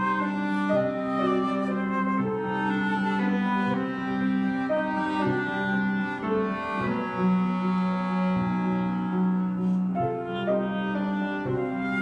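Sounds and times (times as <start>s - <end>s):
chamber quartet playing: 0.0s - 12.0s.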